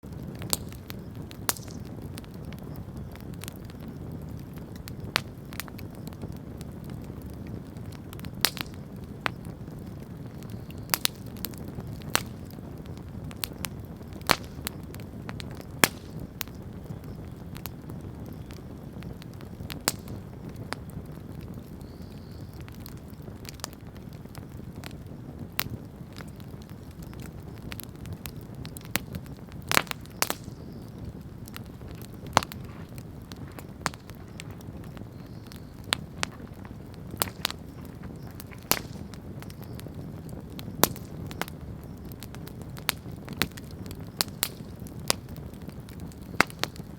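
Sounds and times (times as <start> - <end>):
campfire crackling and popping: 0.0 - 46.9
low rumble of flames: 0.0 - 46.9.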